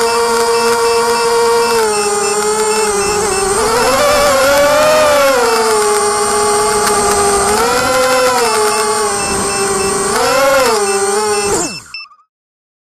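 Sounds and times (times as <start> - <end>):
quadcopter motors whining: 0.0 - 12.2.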